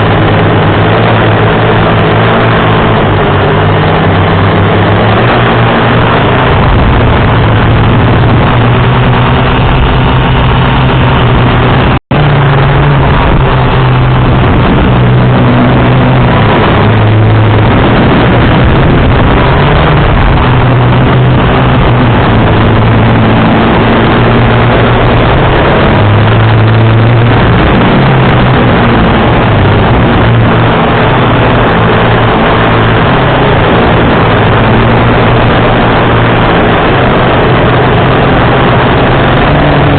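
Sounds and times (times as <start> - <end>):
drone motors humming: 0.0 - 39.9
wind rush over microphone: 0.0 - 39.9.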